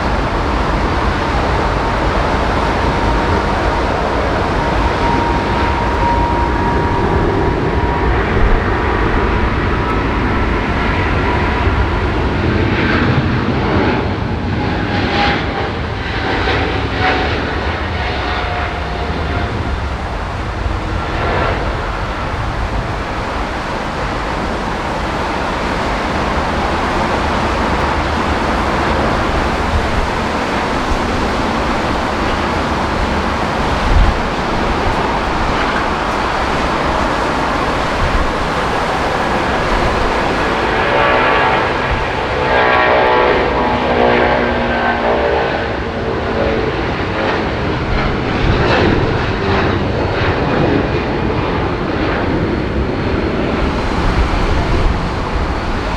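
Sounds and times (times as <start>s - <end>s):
jet engine whine falling in pitch: 0.0s - 55.9s
jet engines rushing: 0.0s - 55.9s.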